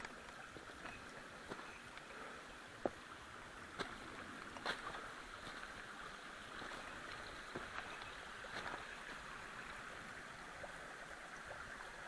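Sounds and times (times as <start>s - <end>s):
mountain stream running: 0.0s - 12.0s.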